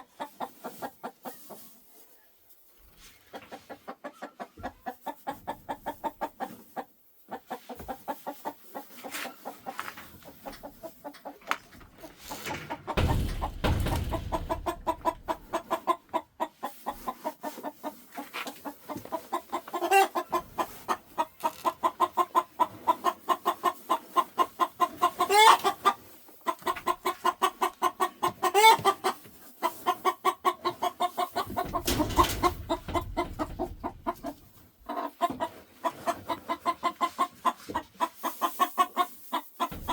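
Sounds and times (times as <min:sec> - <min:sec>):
hen clucking: 0:00.0 - 0:01.6, 0:03.2 - 0:39.9.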